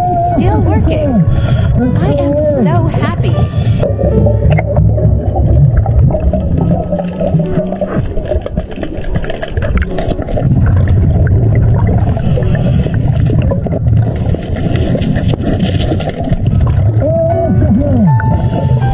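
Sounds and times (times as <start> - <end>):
underwater rumble of water: 0.0 - 18.9
underwater clicks: 3.5 - 18.8.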